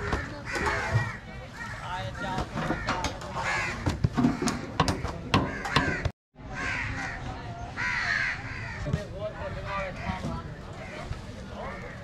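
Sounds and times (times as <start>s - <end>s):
crows cawing: 0.0s - 9.0s, 10.8s - 12.0s.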